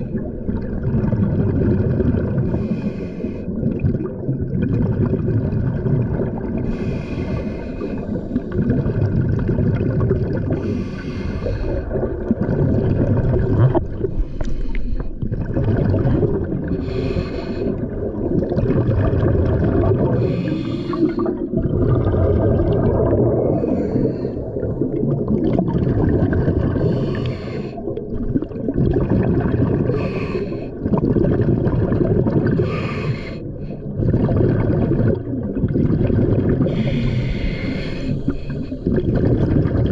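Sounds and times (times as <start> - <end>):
bubbly underwater exhalations: 0.0 - 2.7, 3.5 - 39.9
low rumble of water: 0.0 - 39.9.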